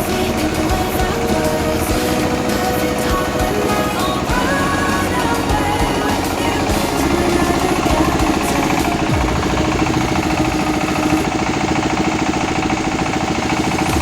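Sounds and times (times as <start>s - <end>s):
milling machine humming and rattling: 0.0s - 14.0s.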